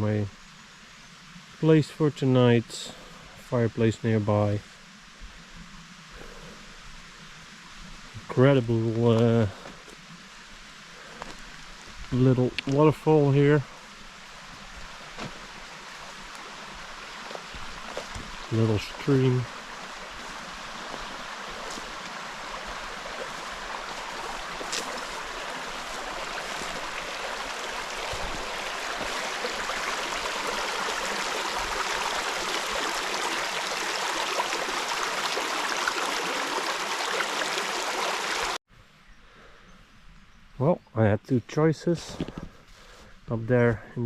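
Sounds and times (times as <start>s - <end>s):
stream over small waterfall: 1.2s - 38.6s.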